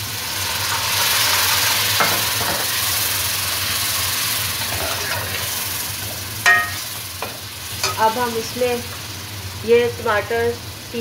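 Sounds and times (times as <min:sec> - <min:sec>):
water boiling off in oil: 0:00.0 - 0:08.9
onions frying in hot oil: 0:00.0 - 0:11.0.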